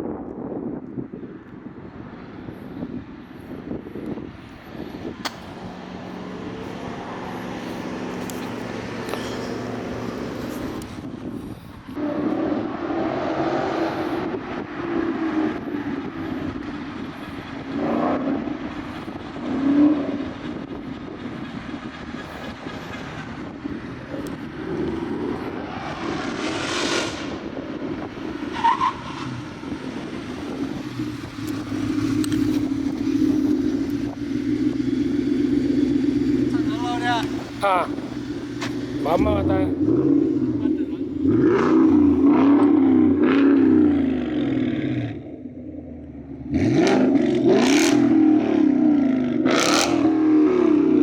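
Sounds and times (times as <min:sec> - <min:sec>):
vee-eight engine revving: 0:04.0 - 0:51.0.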